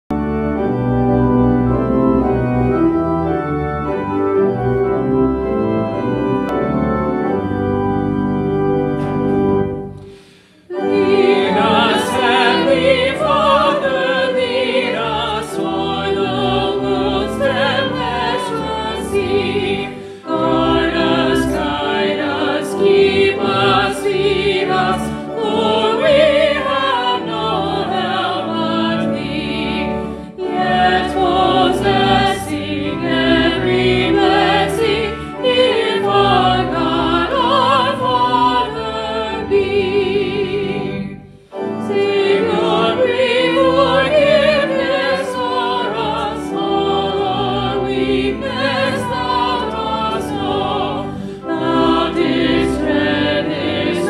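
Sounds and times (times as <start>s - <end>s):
church organ chords: 0.1s - 54.0s
group singing a hymn: 10.0s - 54.0s.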